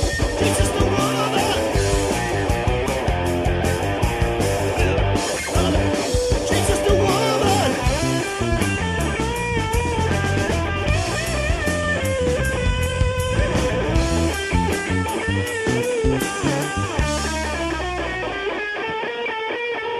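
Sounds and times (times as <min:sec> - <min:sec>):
drum kit: 0:00.0 - 0:18.9
bass guitar: 0:00.0 - 0:19.9
electric guitar lead melody: 0:00.0 - 0:19.9.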